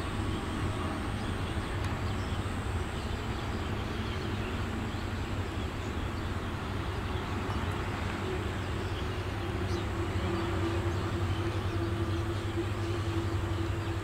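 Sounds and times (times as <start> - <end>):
diesel locomotive engine humming: 0.0 - 14.0.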